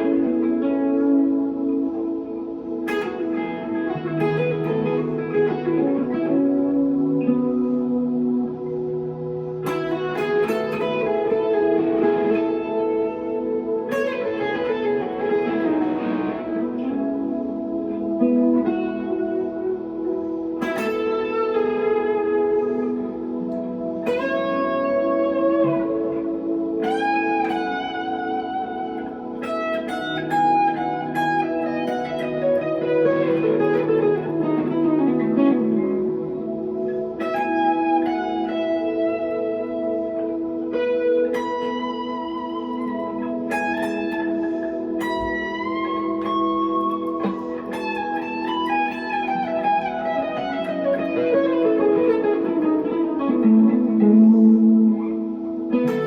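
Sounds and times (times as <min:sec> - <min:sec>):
electric guitar notes ringing: 0:00.0 - 0:56.0.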